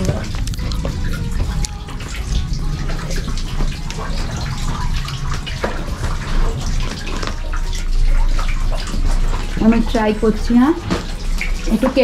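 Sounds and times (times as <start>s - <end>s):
steady low rumble: 0.0s - 12.0s
water trickling into rock pool: 0.0s - 12.0s.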